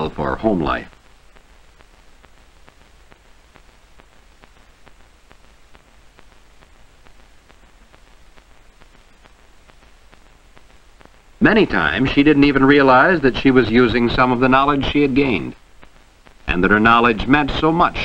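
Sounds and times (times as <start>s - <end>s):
film soundtrack hiss and crackle: 0.0s - 18.0s.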